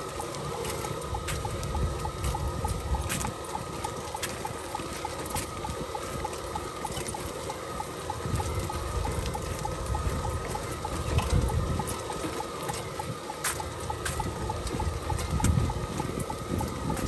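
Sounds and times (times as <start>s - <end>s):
short high beeps: 0.5s - 17.0s.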